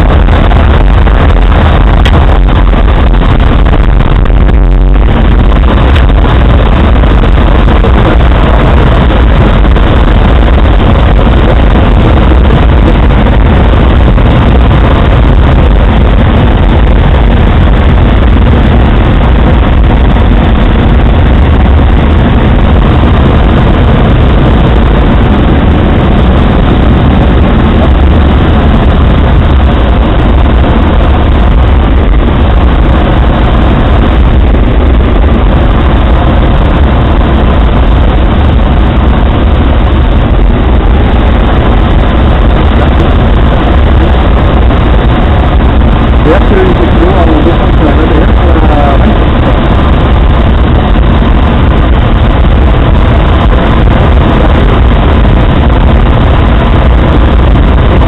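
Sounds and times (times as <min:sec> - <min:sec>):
airflow rushing over cockpit: 0:00.0 - 0:58.0.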